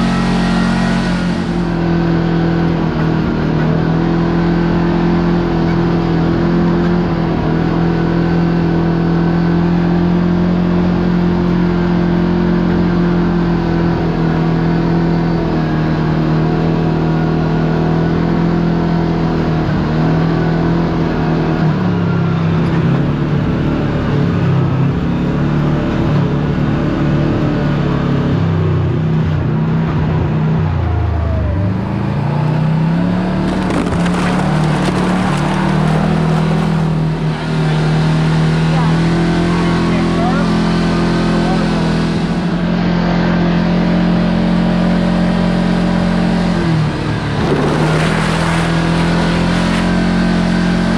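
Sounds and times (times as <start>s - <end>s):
utility vehicle engine revving: 0.0s - 50.9s.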